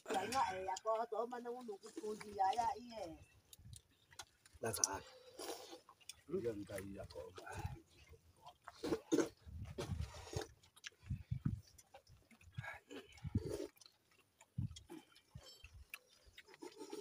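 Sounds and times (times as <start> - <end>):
chewing and slurping: 0.0 - 17.0.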